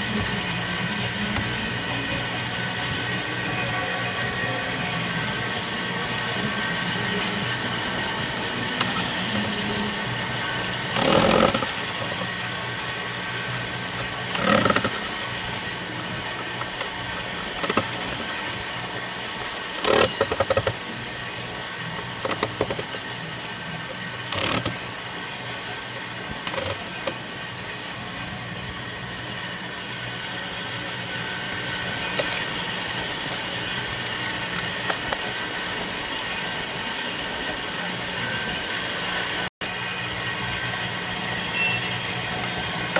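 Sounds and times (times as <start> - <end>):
steady hum: 0.0 - 42.9.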